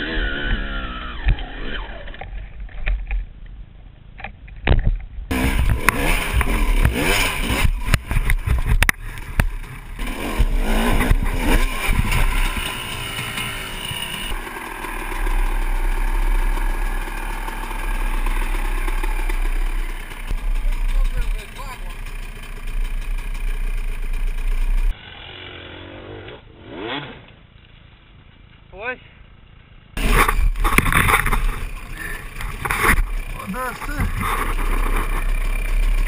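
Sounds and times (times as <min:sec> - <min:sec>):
dirt bike engines revving: 0:00.0 - 0:02.2, 0:05.3 - 0:27.3, 0:30.0 - 0:36.0.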